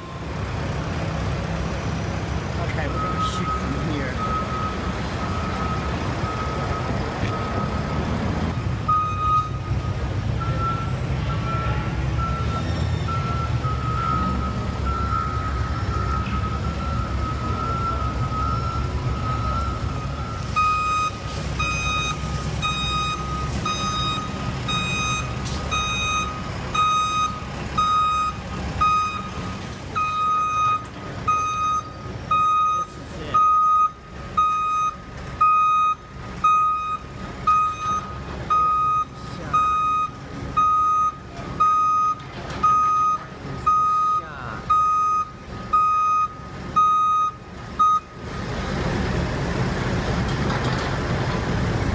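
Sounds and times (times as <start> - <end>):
low engine rumble: 0.0 - 51.9
back-up alarm beeping: 2.9 - 8.0, 8.9 - 48.2.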